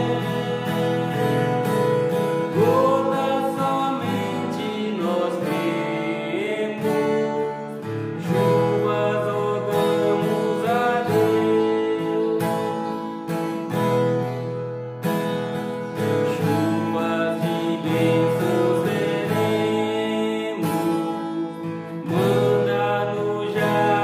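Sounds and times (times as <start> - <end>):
man singing a hymn: 0.0 - 13.0, 16.2 - 24.0
acoustic guitar strumming: 0.0 - 24.0.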